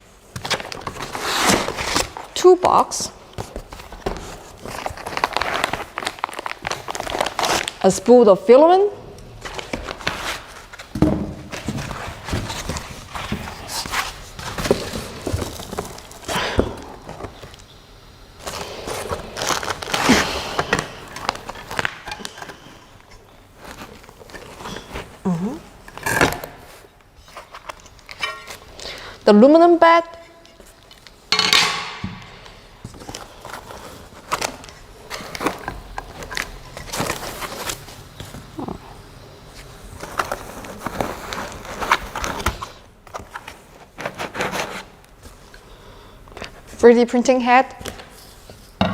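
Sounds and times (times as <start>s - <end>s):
packaging rustling: 0.2s - 2.4s, 3.1s - 8.0s, 9.2s - 17.7s, 18.4s - 29.0s, 32.4s - 46.8s.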